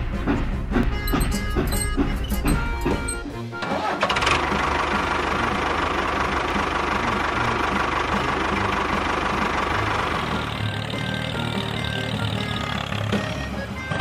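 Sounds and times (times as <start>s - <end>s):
music: 0.0s - 14.0s
tractor engine chugging: 0.0s - 14.0s.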